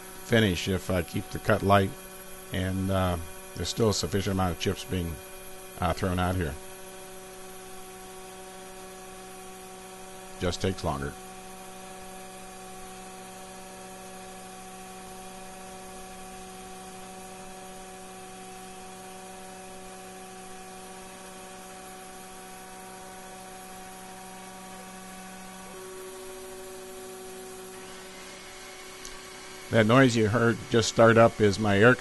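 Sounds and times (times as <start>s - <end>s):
air compressor running: 0.0s - 32.0s
mill spindle whine: 0.0s - 32.0s.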